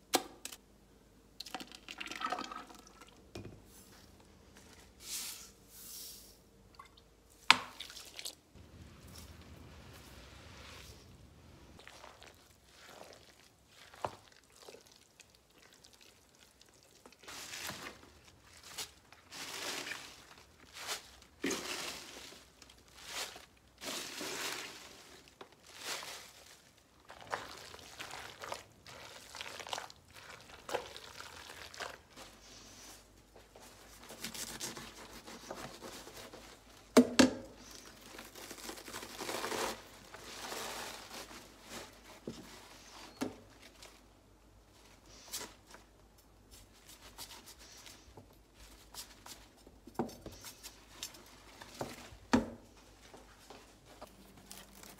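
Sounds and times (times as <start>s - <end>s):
hands mixing swishing rustling: 7.7s - 37.0s, 37.6s - 54.9s.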